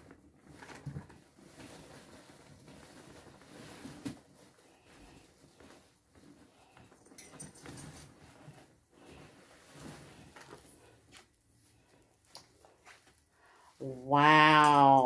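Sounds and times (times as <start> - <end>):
crinkle: 0.0 - 13.8.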